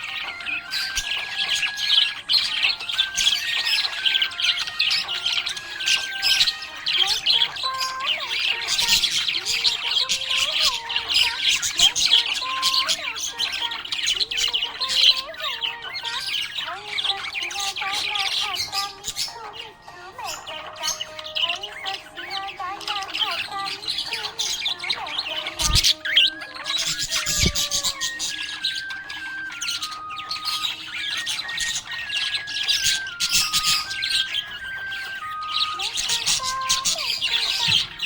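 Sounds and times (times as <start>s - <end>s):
budgerigar chirping and squawking: 0.0s - 38.0s.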